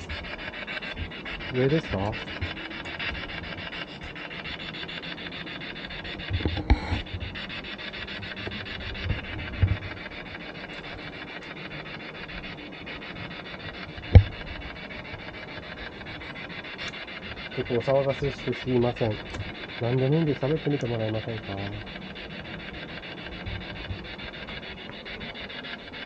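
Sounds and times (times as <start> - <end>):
chopped radio static hiss: 0.0 - 26.0.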